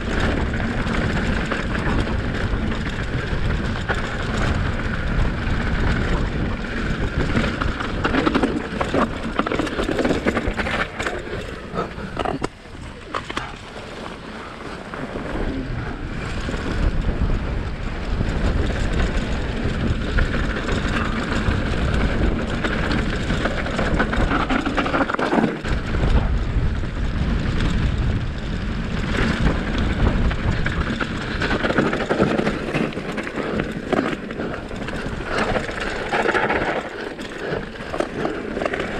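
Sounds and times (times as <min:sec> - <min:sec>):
bike clattering over rough ground: 0:00.0 - 0:38.9
wind and tyre noise: 0:00.0 - 0:38.9.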